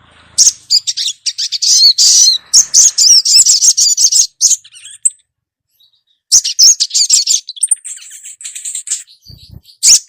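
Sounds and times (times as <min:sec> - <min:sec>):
bird chattering chirps: 0:00.4 - 0:05.2, 0:05.8 - 0:10.0.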